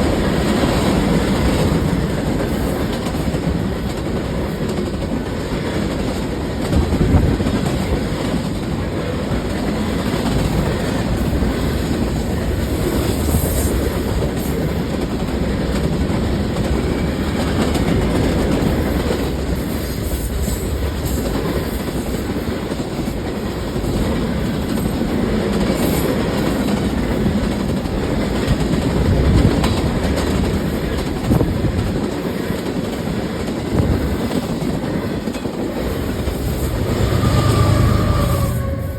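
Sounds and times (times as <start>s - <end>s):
train wheels clacking on rails: 0.0s - 38.9s.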